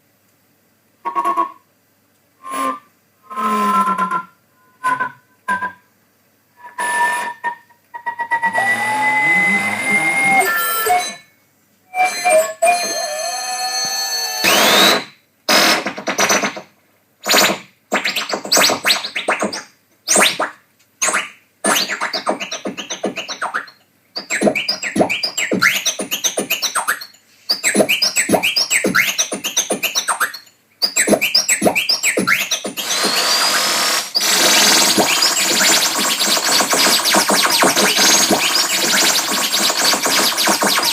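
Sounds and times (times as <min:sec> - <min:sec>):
scratchy chirping tape noise: 0:02.4 - 0:05.8, 0:06.6 - 0:11.3, 0:12.0 - 0:40.9.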